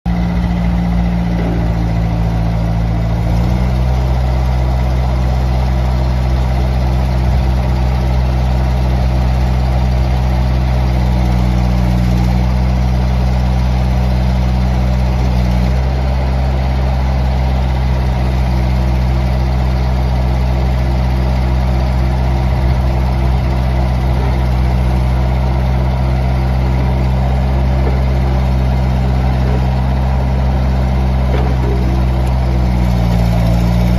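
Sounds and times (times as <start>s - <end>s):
skid steer diesel engine running: 0.1s - 33.9s.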